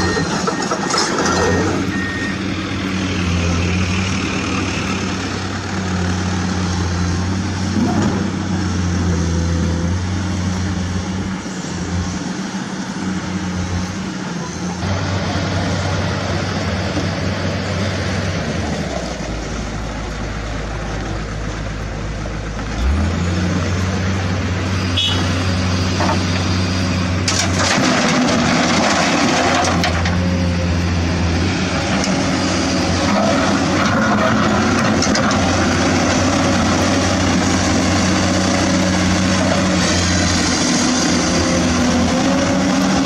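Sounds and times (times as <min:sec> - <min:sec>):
heavy vehicle engine humming: 0:00.0 - 0:43.0.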